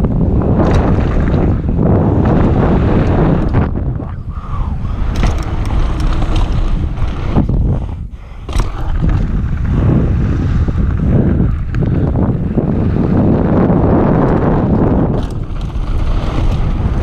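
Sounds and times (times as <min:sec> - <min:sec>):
bike knocks and rattles: 0:00.0 - 0:04.2, 0:04.8 - 0:17.0
bike tyre noise: 0:00.0 - 0:17.0
wind buffeting microphone: 0:00.0 - 0:17.0.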